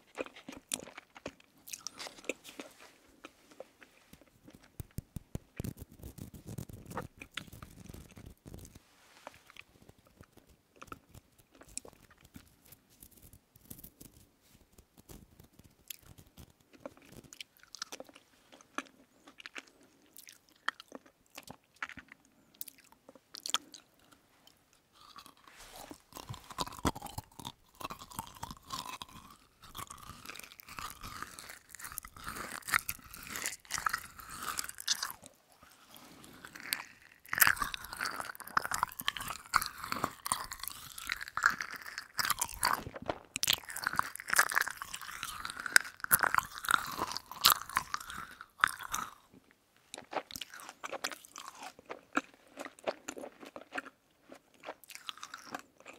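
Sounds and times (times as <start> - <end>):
small crunches: 0.0 - 24.2, 25.0 - 49.3, 49.9 - 55.9
chewing sticky candy: 0.0 - 55.9.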